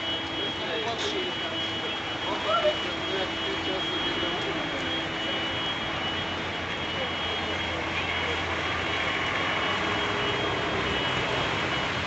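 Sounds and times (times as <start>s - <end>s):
minibus engine drone: 0.0s - 12.0s.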